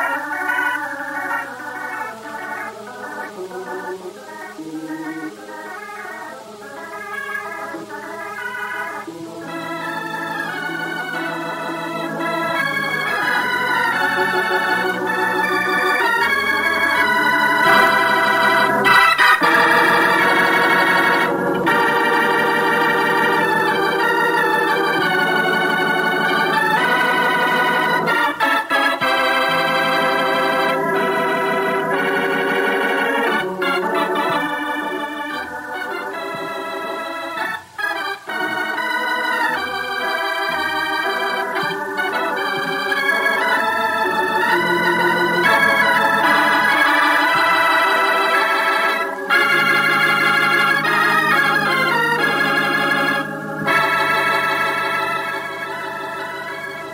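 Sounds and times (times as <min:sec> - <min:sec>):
organ music: 0:00.0 - 0:56.9.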